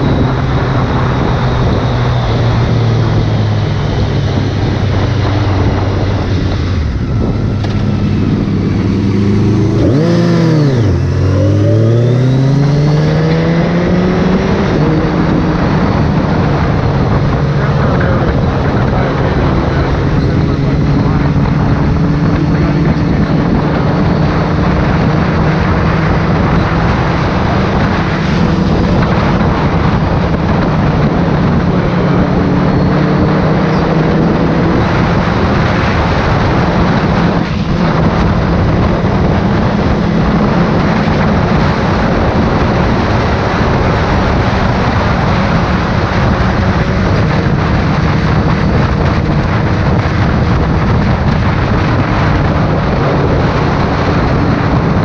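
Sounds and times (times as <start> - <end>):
motorcycle engine cruising: 0.0 - 55.0
road noise: 0.0 - 55.0
wind rush: 0.0 - 55.0.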